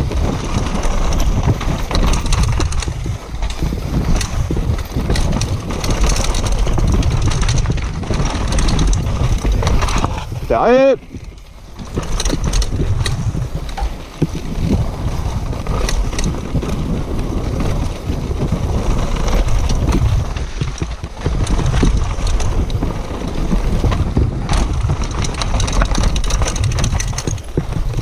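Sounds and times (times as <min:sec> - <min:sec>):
bike clicking and rattling: 0:00.0 - 0:28.0
tyres on dirt: 0:00.0 - 0:28.0
wind buffeting microphone: 0:00.0 - 0:28.0.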